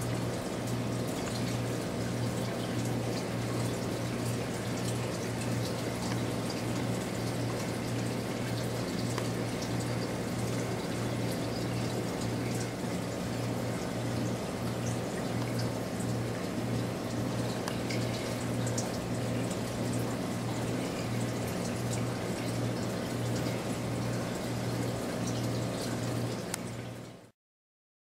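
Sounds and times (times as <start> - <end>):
constant low hum: 0.0 - 26.9
aquarium water trickling: 0.0 - 27.3
faint drip-like ticks: 0.5 - 27.1.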